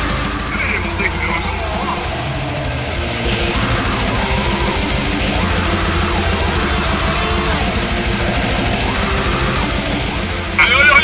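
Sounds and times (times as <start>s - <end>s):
heavy metal music: 0.0s - 11.0s.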